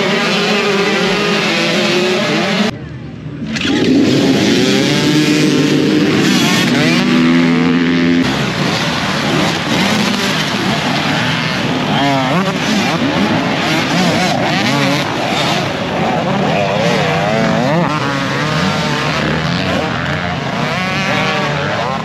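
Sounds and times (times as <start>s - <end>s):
dirt bikes revving and passing: 0.0s - 2.8s, 3.4s - 22.0s.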